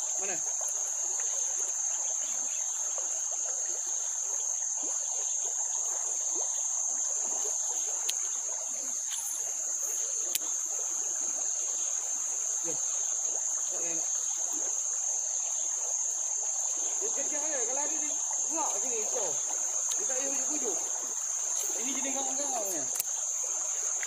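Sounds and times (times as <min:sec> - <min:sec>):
shrill insect chorus: 0:00.0 - 0:24.0.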